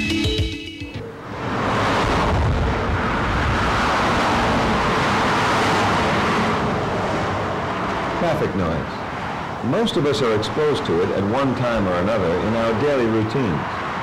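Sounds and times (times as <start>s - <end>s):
heavy highway traffic: 0.0s - 14.0s.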